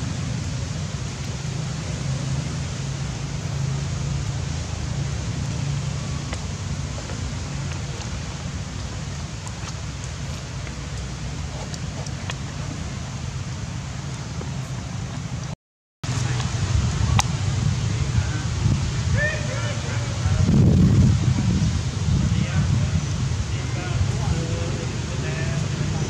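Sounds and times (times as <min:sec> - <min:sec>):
low constant rumble: 0:00.0 - 0:26.0.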